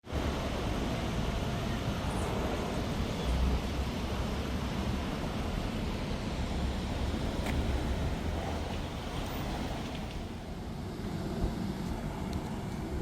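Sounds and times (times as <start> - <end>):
city traffic rumble: 0.0 - 13.0
wind buffeting microphone: 0.2 - 13.0.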